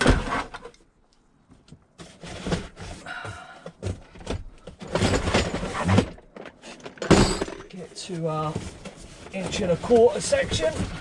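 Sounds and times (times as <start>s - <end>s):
boxes knocking and scraping: 0.0s - 0.7s, 1.6s - 11.0s.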